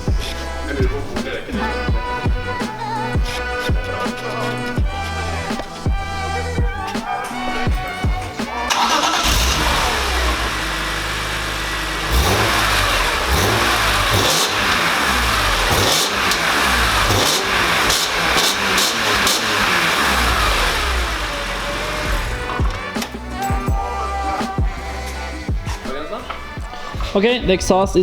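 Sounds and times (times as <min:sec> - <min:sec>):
car engine revving: 0:00.0 - 0:27.2.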